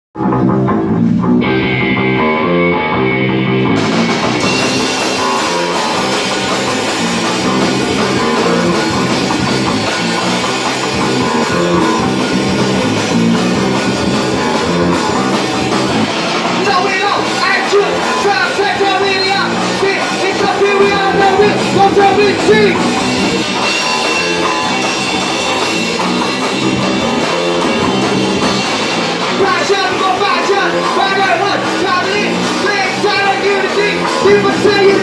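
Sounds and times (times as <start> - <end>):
electric guitar riff: 0.2 - 35.0
punk band playing: 0.2 - 35.0
drum kit with cymbals: 3.6 - 35.0.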